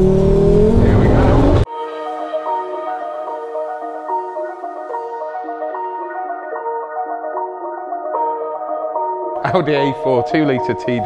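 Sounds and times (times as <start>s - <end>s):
slow melody over held tones: 0.0s - 9.5s.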